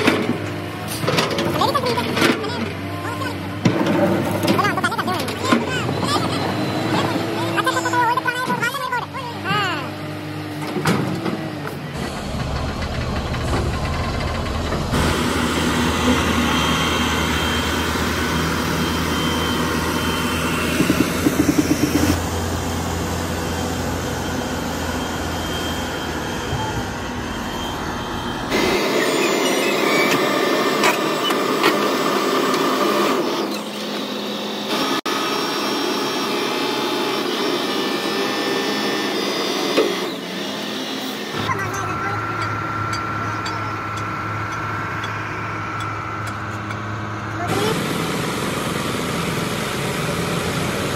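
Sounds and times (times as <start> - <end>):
heavy machinery diesel engines: 0.0 - 50.9.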